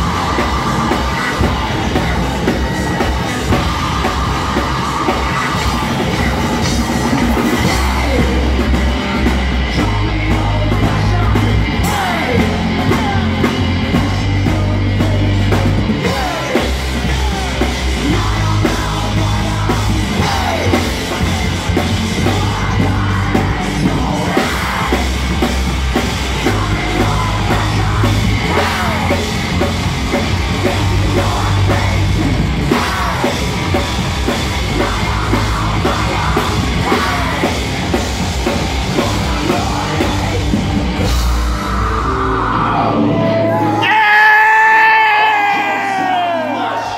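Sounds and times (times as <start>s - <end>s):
heavy bass notes: 0.0s - 46.3s
distorted electric guitar: 0.0s - 46.9s
live heavy metal band: 0.0s - 46.9s
pounding drum kit: 0.0s - 46.9s
yelled vocals: 0.0s - 46.9s.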